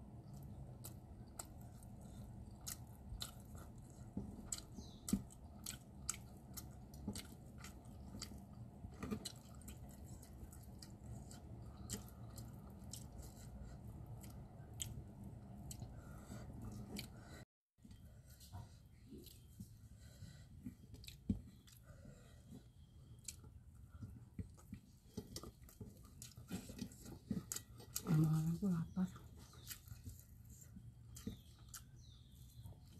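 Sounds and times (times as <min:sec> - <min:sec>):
steady low hum: 0:00.0 - 0:32.9
person chewing with clicks: 0:00.2 - 0:17.4, 0:20.6 - 0:32.9.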